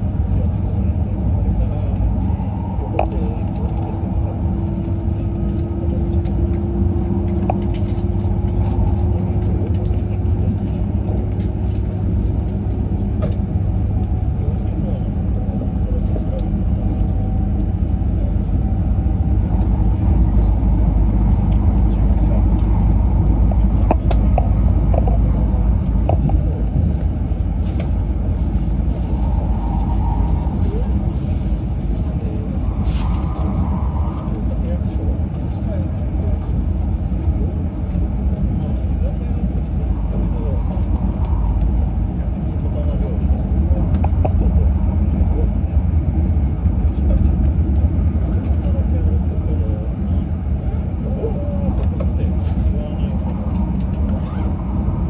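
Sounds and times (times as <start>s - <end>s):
steady hum: 0.0s - 55.0s
train wheels rumbling on track: 0.0s - 55.0s.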